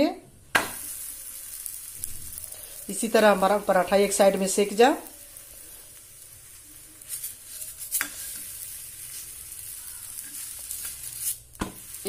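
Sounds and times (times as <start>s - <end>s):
flatbread sizzling in oil: 0.5s - 12.0s.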